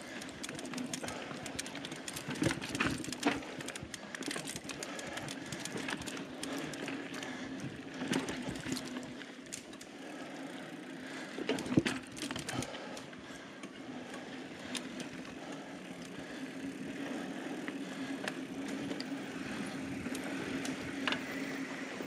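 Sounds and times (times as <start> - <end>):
bike rattles and clicks: 0.0 - 22.0
bike tyres on dirt trail: 0.0 - 22.0.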